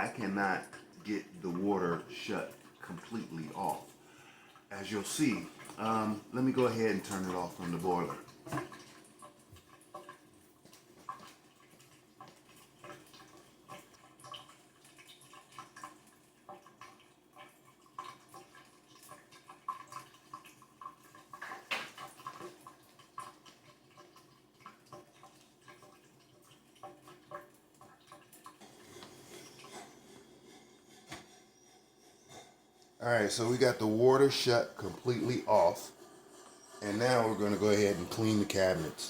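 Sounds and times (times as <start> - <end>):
water dripping and trickling: 0.0 - 39.0.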